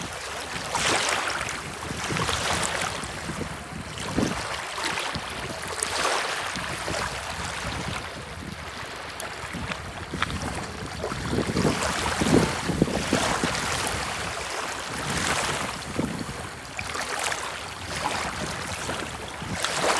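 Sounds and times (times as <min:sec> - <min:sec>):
small waves breaking on shore: 0:00.0 - 0:19.9
wind rumbling on microphone: 0:00.0 - 0:19.9.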